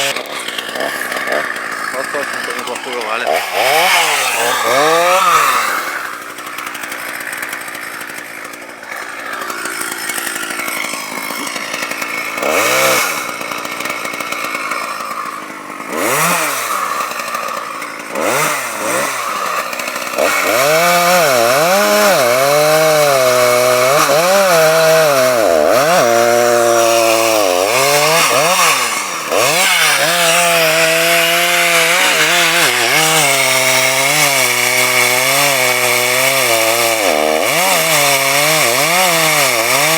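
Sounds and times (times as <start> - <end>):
chainsaw revving: 0.0 - 39.9
chainsaw sawing into tree trunk: 0.0 - 39.9.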